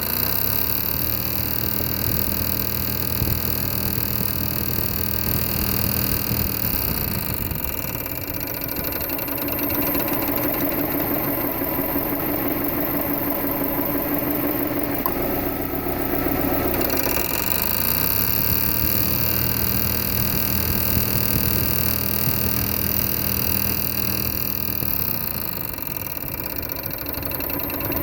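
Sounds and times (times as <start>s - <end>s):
car engine running: 0.0s - 28.0s
rapid rhythmic mechanical noise: 0.0s - 28.0s.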